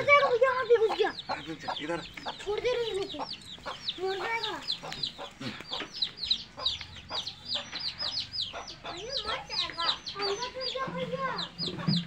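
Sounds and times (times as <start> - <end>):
chicks peeping loudly: 0.0 - 12.0
hen calling: 0.0 - 12.0.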